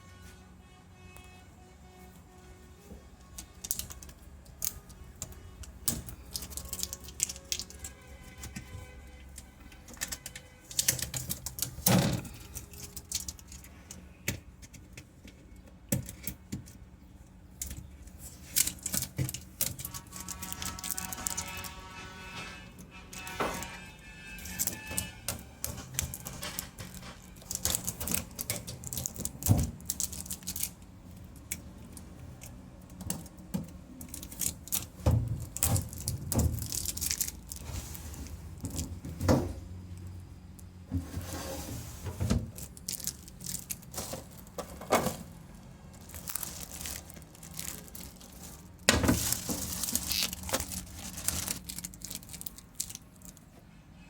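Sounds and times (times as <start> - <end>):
plastic packaging rustling and tearing: 3.3 - 14.8, 17.6 - 40.2, 41.1 - 53.6.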